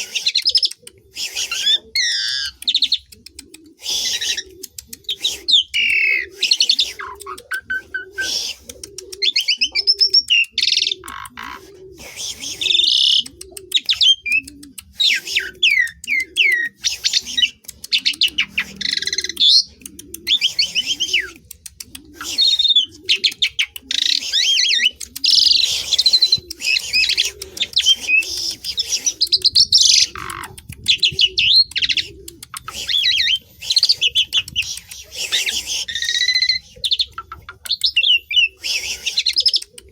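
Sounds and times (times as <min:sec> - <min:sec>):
starling singing chatter: 0:00.0 - 0:39.9.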